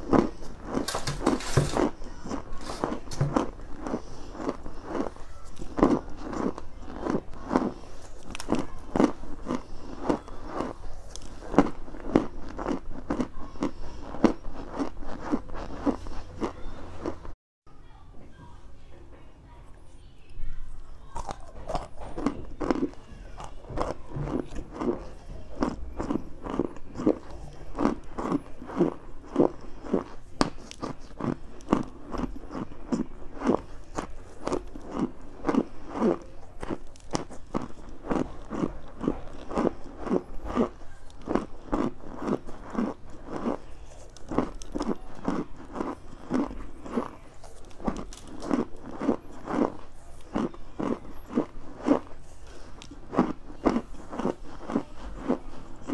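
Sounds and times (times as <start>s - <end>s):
crunching chews: 0.0s - 17.4s, 20.8s - 55.9s.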